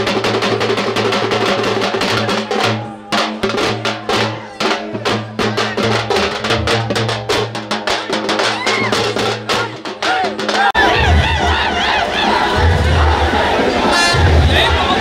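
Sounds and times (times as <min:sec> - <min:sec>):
fast loud drumming: 0:00.0 - 0:15.0.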